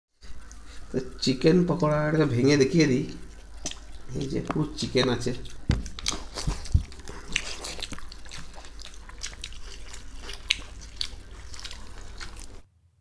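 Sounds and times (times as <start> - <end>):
chewing and mouth clicks: 0.2 - 1.8, 2.5 - 12.6
low steady hum: 0.2 - 13.0.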